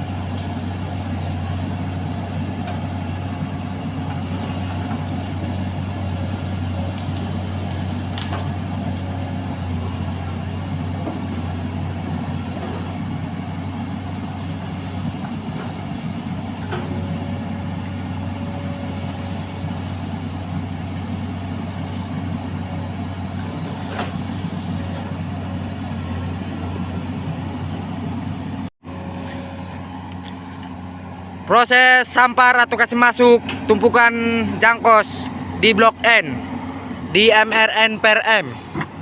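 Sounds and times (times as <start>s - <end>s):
diesel engine humming: 0.0s - 39.0s.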